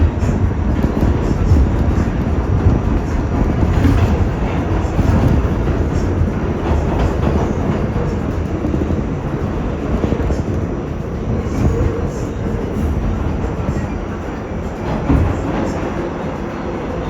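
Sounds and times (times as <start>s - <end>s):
subway wheels rumbling on rail: 0.0s - 17.0s
wheels clicking over rail joints: 0.0s - 17.0s.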